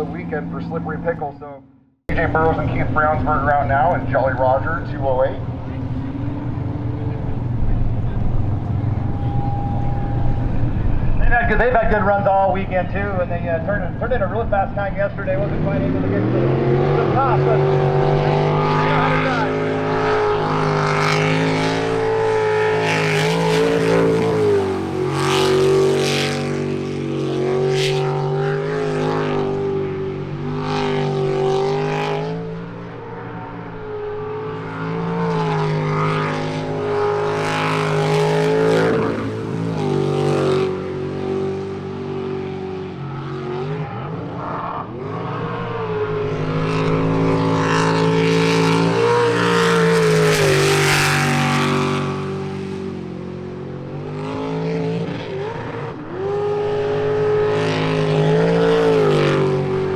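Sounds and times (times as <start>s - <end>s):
racing boat engine revving: 0.0s - 59.9s.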